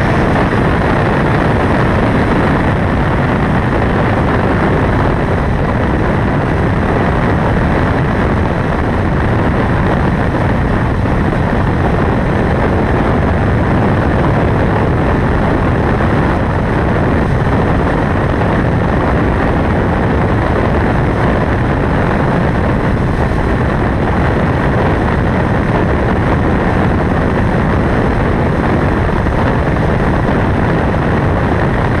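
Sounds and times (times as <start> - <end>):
motorcycle engine: 0.0 - 32.0
wind over microphone: 0.0 - 32.0.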